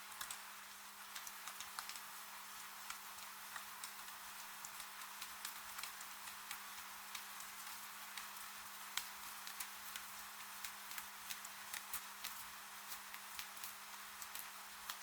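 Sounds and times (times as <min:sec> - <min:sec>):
falling rain hiss: 0:00.0 - 0:15.0
wood fire crackling and popping: 0:01.1 - 0:02.0, 0:02.8 - 0:15.0.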